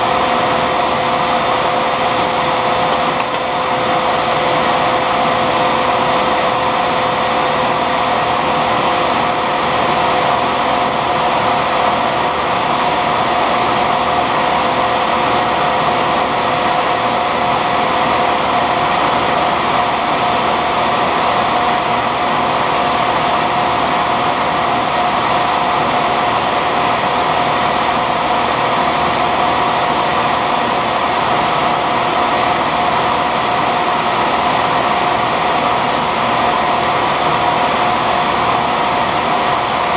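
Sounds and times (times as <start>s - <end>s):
lathe motor whine: 0.0s - 39.9s
shop vacuum whooshing: 0.0s - 39.9s.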